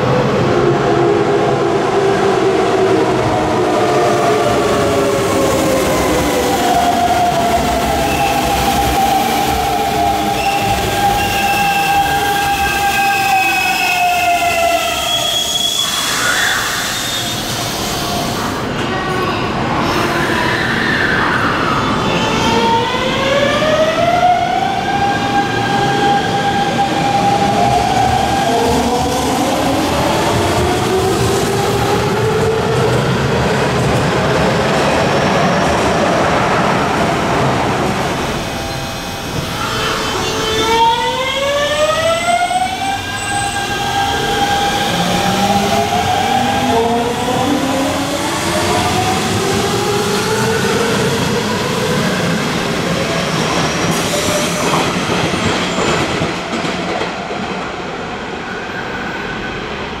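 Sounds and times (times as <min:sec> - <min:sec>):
train running noise: 0:03.1 - 1:00.0.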